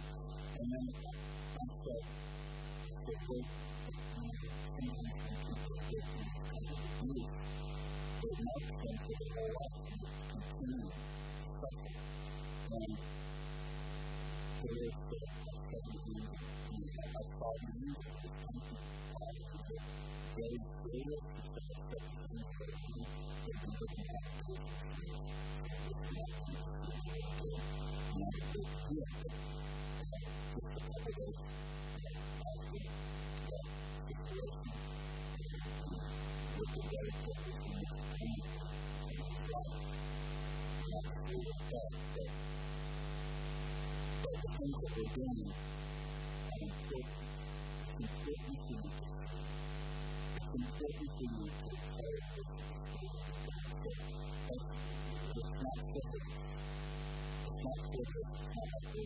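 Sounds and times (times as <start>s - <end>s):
faint talking voice: 0.0s - 2.1s, 2.8s - 7.6s, 8.2s - 12.0s, 12.6s - 13.0s, 14.6s - 40.0s, 40.8s - 42.4s, 44.2s - 45.8s, 46.4s - 47.2s, 47.8s - 49.4s, 50.4s - 56.7s, 57.4s - 59.0s
electrical mains hum: 0.0s - 59.0s.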